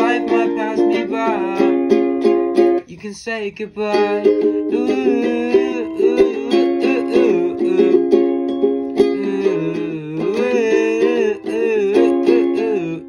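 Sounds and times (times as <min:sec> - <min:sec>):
plucked string instrument chords: 0:00.0 - 0:02.9, 0:03.7 - 0:13.0
wordless sung melody: 0:00.0 - 0:13.0.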